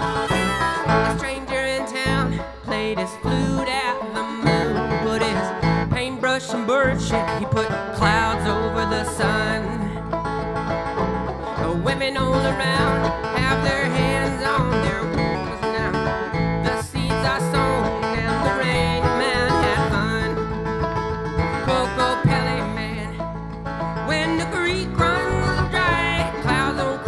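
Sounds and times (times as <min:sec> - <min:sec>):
folk band plucked strings: 0:00.0 - 0:27.0.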